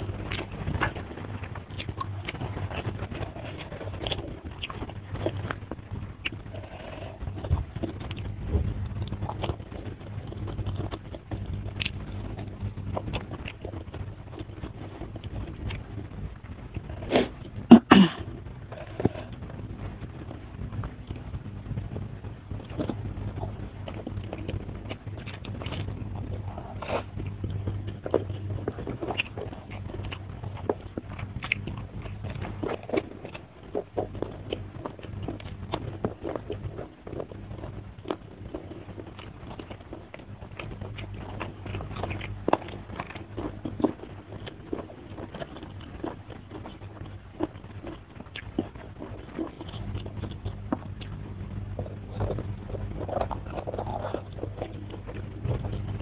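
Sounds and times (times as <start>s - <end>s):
low steady hum: 0.0s - 56.0s
person chewing and crunching food: 0.0s - 56.0s.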